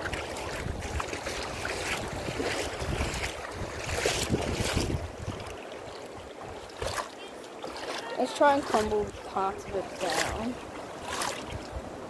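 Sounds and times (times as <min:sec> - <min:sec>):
wind rumbling on microphone: 0:00.0 - 0:07.8, 0:08.5 - 0:12.0
creek water splashing and lapping: 0:00.0 - 0:12.0.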